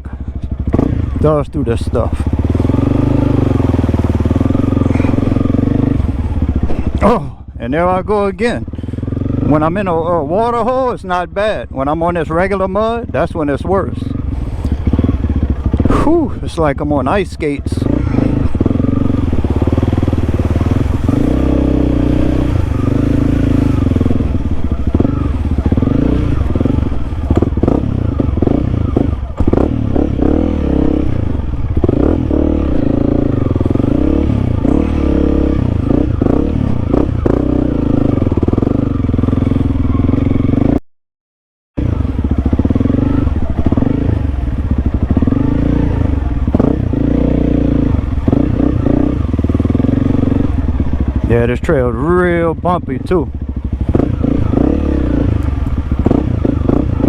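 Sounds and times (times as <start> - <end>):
motorcycle engine revving: 0.0 - 40.8, 41.7 - 57.0.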